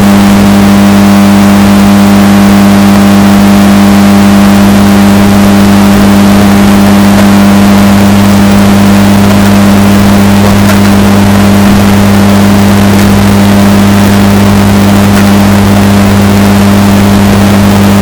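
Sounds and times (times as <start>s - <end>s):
distorted washing machine drone: 0.0s - 18.0s.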